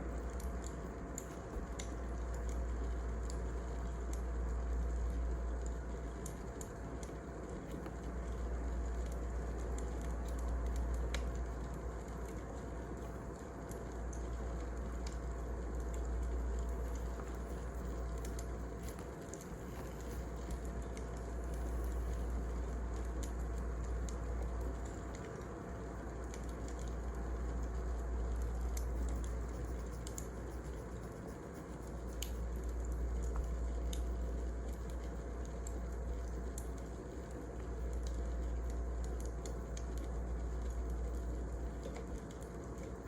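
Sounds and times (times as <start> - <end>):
fire rumbling hiss: 0.0 - 43.0
wood fire crackling and popping: 0.1 - 43.0.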